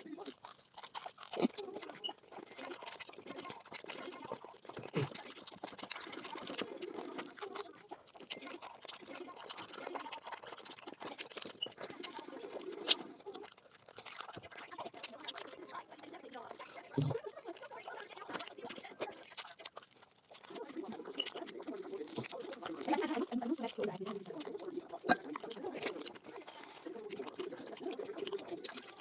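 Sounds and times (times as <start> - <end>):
chewing with wet crunches: 0.0 - 29.0.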